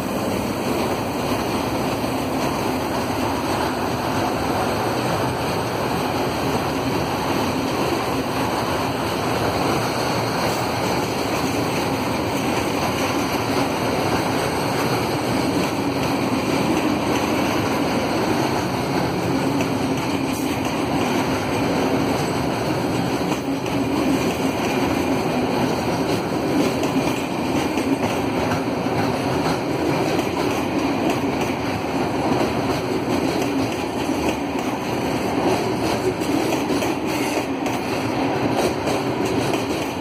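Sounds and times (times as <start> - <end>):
freight train rolling past: 0.0 - 40.0.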